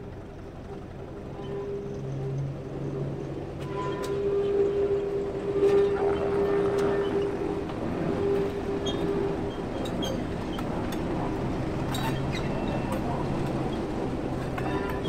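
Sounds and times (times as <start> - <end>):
diesel locomotive engine rumbling: 0.0 - 15.0
wheels ticking and squeaking on rails: 0.0 - 15.0.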